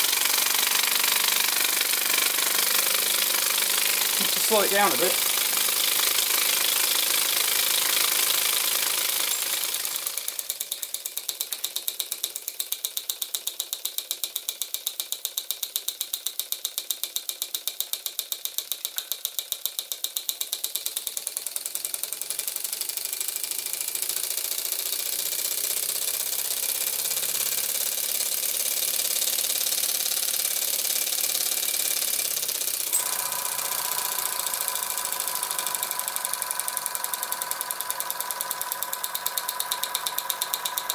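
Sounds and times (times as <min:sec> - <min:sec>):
small air engine clicking and puffing: 0:00.0 - 0:40.9.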